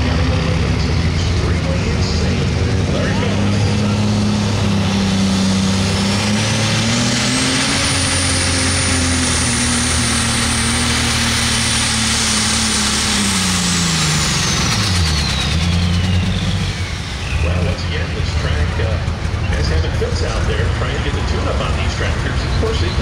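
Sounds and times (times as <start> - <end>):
high turbo whine: 0.0 - 23.0
tractor engine at full power: 0.0 - 23.0.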